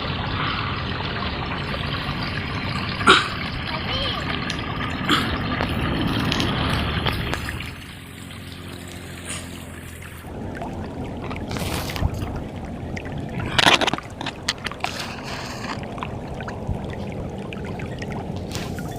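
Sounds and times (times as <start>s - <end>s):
river water flowing: 0.0s - 18.9s
water splashes: 0.0s - 18.9s.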